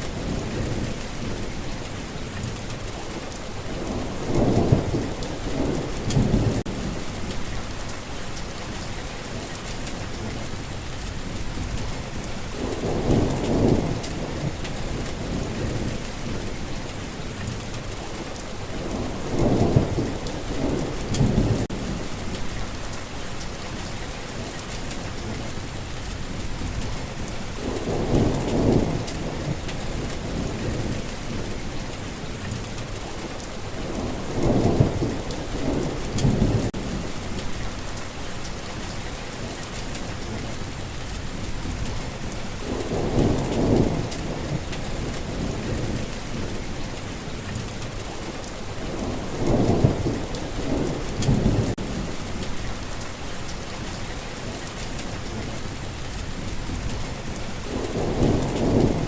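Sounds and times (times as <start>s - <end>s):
low rumbles of thunder: 0.0s - 59.0s
steady rain falling: 0.0s - 59.0s.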